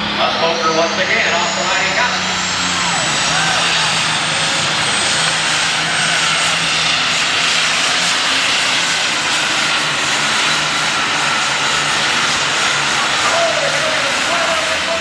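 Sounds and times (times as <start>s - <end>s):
diesel tractor engine at full load: 0.0s - 15.0s
turbo whine: 0.0s - 15.0s.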